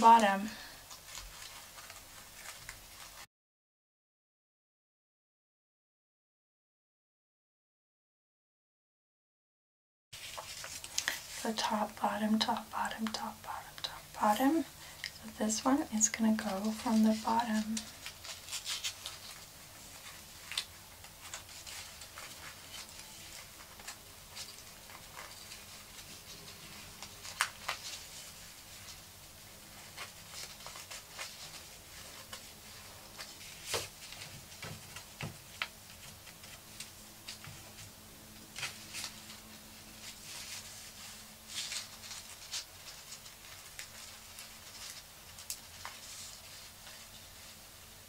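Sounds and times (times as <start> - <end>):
paper rustling and crinkling: 0.0 - 3.3, 10.2 - 47.9.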